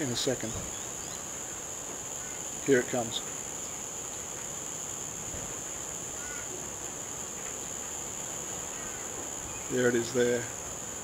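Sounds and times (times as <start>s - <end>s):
faint outdoor hiss: 0.0s - 11.0s
high-pitched insect drone: 0.0s - 11.0s.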